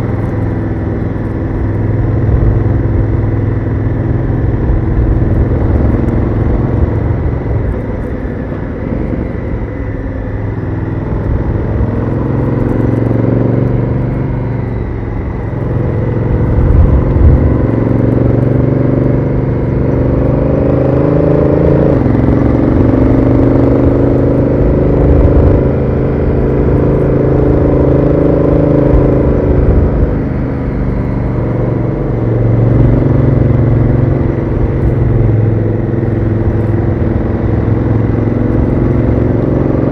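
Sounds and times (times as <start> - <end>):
motorcycle engine revving: 0.0 - 39.9
wind and road rumble: 0.0 - 39.9.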